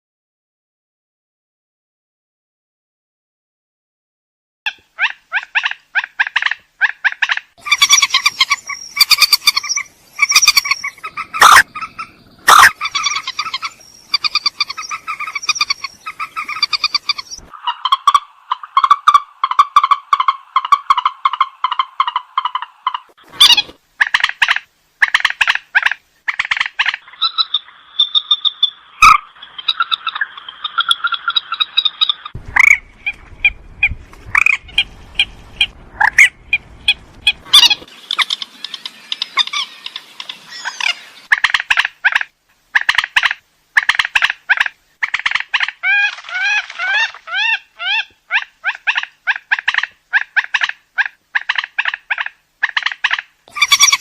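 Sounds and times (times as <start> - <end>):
waterhen croaking calls: 4.7 - 54.0.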